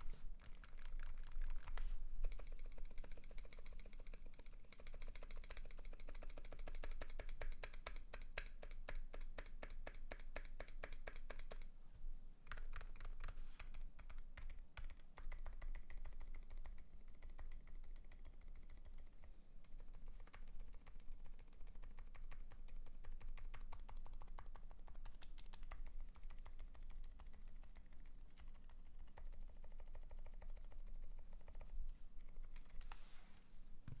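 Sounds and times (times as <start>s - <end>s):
typing on mechanical keyboard: 0.4s - 11.7s, 12.5s - 32.8s.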